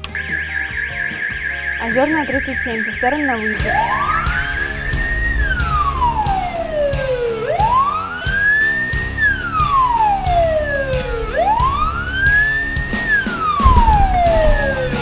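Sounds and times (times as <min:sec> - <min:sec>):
siren wailing in slow sweeps: 0:00.4 - 0:15.0.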